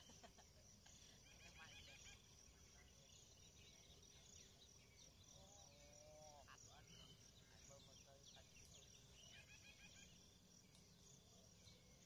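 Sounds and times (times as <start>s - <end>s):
birds chirping: 0.9s - 12.0s.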